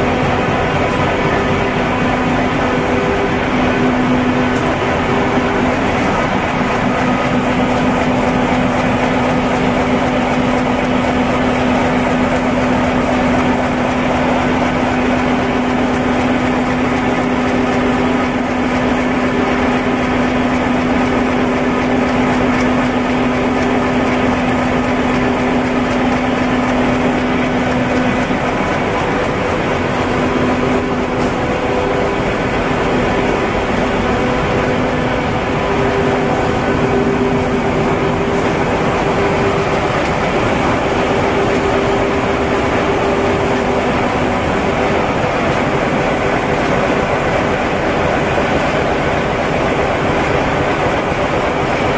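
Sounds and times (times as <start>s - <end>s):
industrial machine running: 0.0s - 51.9s.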